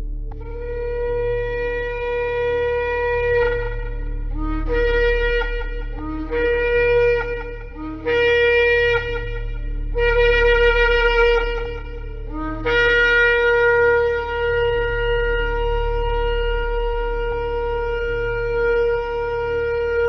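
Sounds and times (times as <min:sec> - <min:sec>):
steady low hum: 0:00.0 - 0:20.0
shofar blasts: 0:00.4 - 0:20.0.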